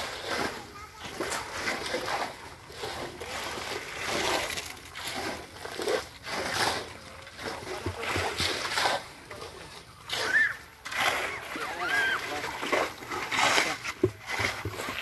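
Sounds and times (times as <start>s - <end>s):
wet cement splashing: 0.0s - 15.0s.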